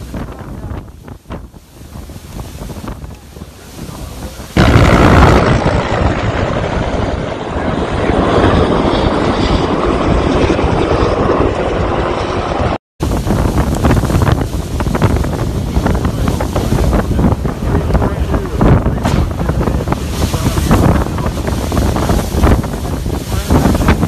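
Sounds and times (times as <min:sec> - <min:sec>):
burning trees crackling and popping: 0:00.0 - 0:12.4, 0:13.0 - 0:24.0
wind buffeting microphone: 0:00.0 - 0:24.0.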